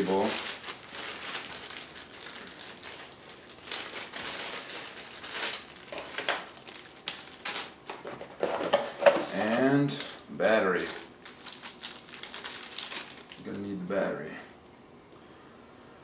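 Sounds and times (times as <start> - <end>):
packaging rustling: 0.0 - 13.6.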